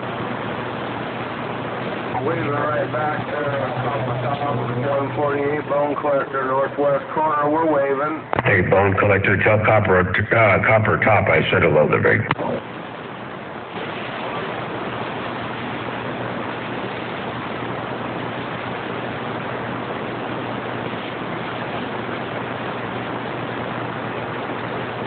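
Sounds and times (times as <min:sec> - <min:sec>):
faint low hum: 0:00.0 - 0:25.0
radio static hiss: 0:00.0 - 0:25.0.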